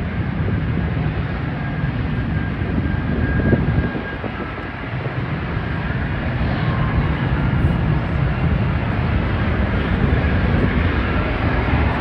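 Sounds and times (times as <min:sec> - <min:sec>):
aircraft engine deep rumble: 0:00.0 - 0:12.0.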